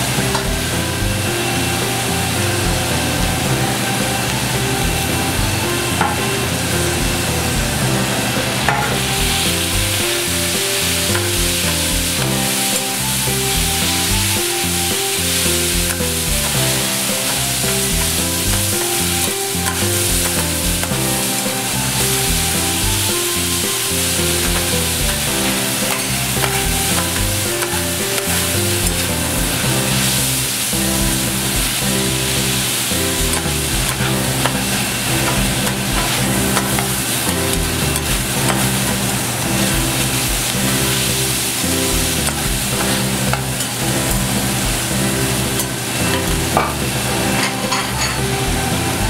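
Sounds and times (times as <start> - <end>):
food sizzling on griddle: 0.0 - 49.0.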